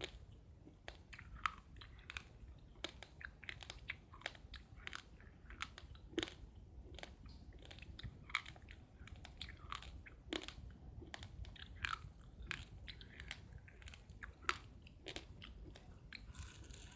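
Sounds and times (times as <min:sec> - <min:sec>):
chewing uncooked rice crunches: 0:00.0 - 0:16.9.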